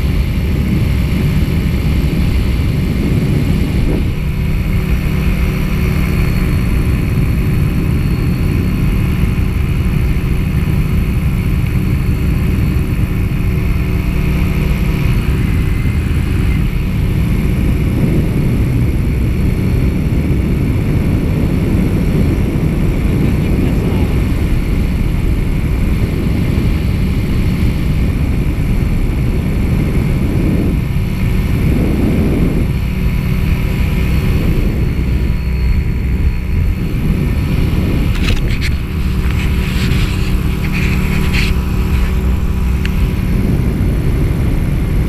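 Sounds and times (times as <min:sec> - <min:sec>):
paramotor engine droning: 0:00.0 - 0:45.0.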